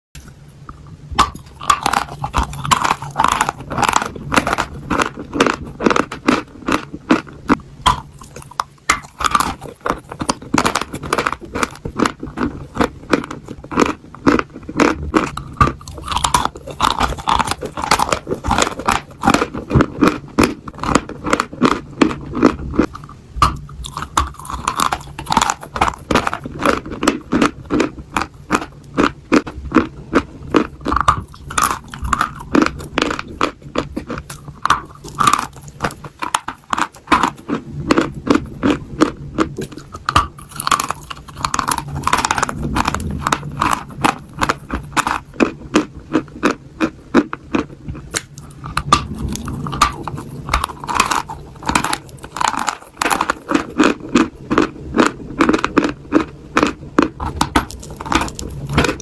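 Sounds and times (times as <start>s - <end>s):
person crunching chalk: 1.2s - 59.0s.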